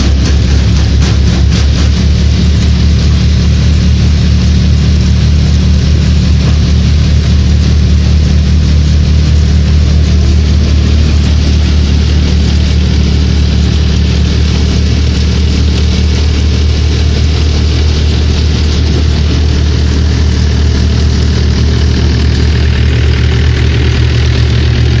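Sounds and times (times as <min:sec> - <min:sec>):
grain rushing through machine: 0:00.0 - 0:25.0
thresher drum and blower: 0:00.0 - 0:25.0
tractor diesel engine running: 0:00.0 - 0:25.0.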